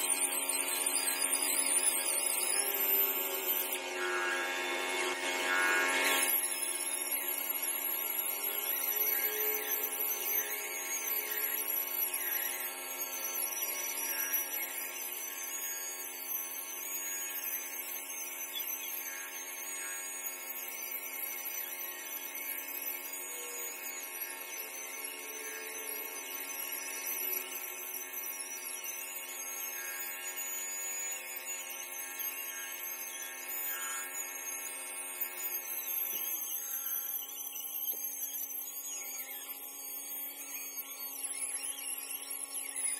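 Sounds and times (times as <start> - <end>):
stone polisher whining: 0.0 - 42.9.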